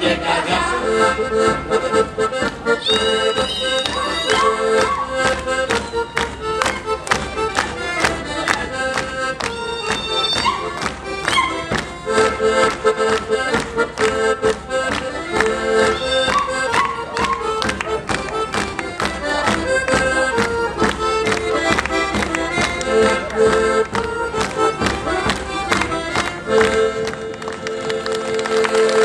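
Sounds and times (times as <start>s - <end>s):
folk band playing dance tune: 0.0s - 29.0s.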